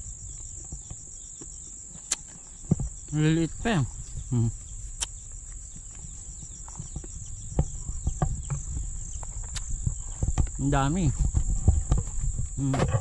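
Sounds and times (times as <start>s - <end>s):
leaves and twigs rustling: 0.0s - 12.7s
crickets chirping: 0.0s - 13.0s.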